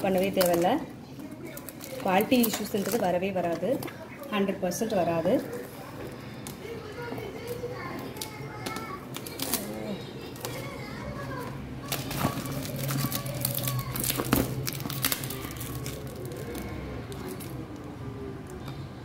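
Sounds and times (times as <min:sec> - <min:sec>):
plastic wrapping crinkling: 0:00.0 - 0:18.6.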